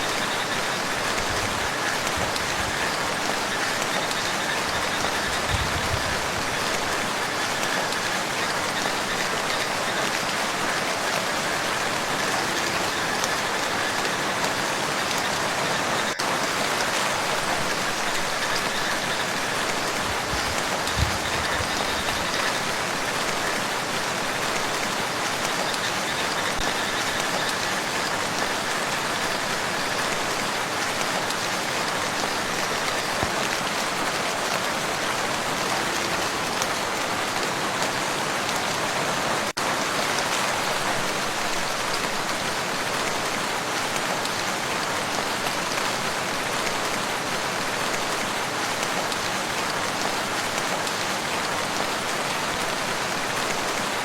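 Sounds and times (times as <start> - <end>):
rain falling on lake: 0.0 - 54.0.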